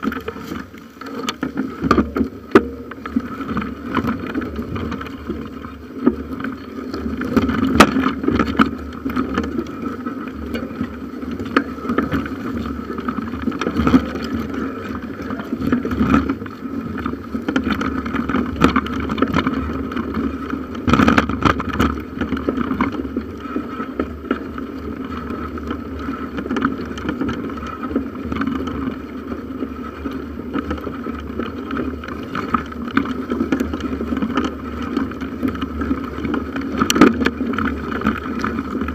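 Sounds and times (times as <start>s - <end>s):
bicycle knocks and rattles: 0.0s - 38.9s
rumble of tyres and wind: 0.0s - 38.9s.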